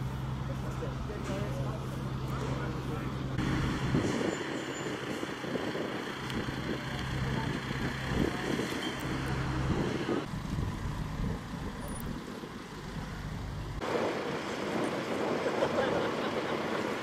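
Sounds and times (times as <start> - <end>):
heavy vehicle engine humming: 0.0 - 17.0.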